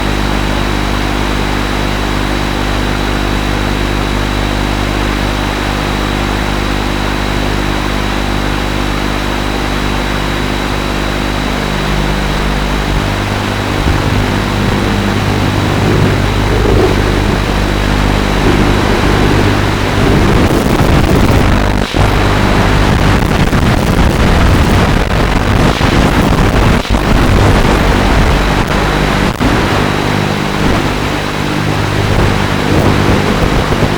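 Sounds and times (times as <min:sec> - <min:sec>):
drone motors and propellers humming: 0:00.0 - 0:33.9.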